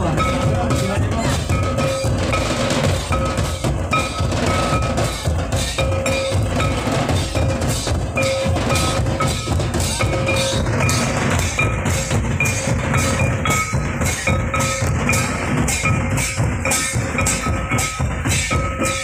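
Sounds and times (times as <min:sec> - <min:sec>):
drums in fast rhythm: 0:00.0 - 0:19.0.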